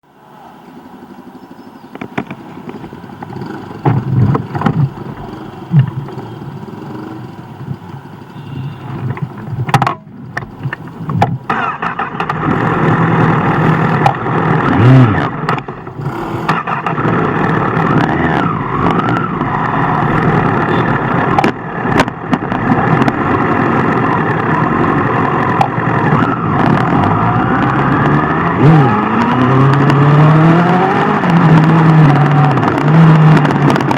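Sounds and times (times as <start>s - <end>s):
superbike engine revving: 2.1s - 33.9s.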